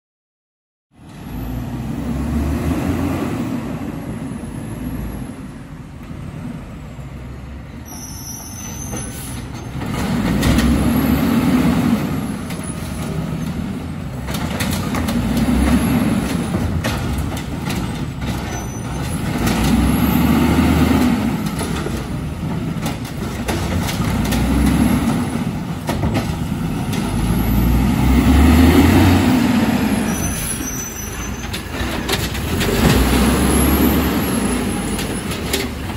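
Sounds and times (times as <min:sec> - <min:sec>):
garbage truck diesel engine revving: 0:01.3 - 0:04.8, 0:09.8 - 0:35.9.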